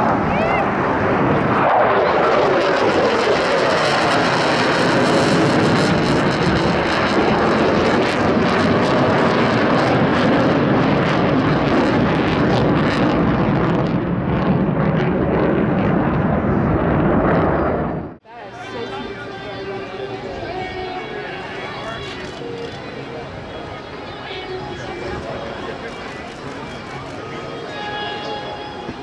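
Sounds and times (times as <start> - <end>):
jet engines roaring past: 0.0 - 29.0.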